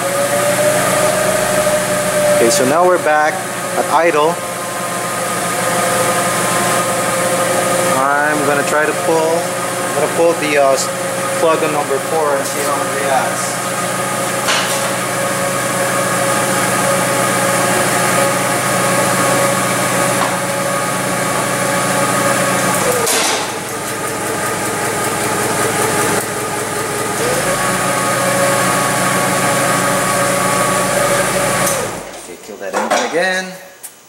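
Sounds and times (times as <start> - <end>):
engine idling: 0.0 - 32.1.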